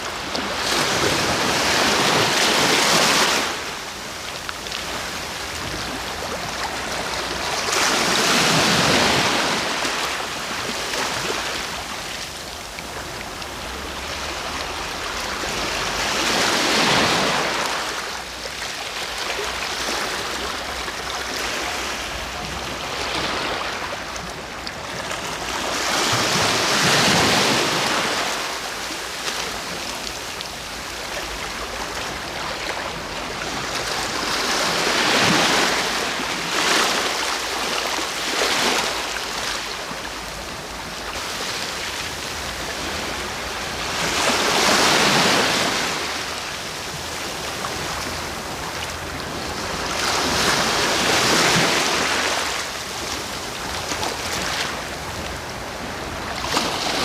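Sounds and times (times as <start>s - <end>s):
ocean waves breaking on shore: 0.0s - 57.0s
surf hiss: 0.0s - 57.0s.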